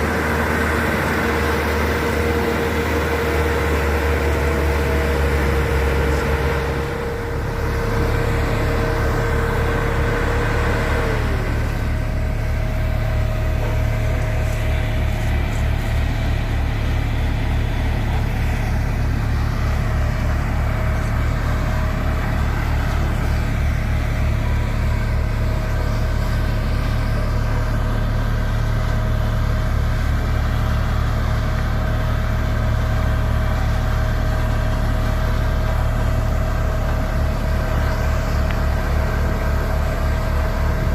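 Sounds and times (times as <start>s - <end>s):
engine whine: 0.0s - 40.9s
heavy diesel engine running: 0.0s - 40.9s.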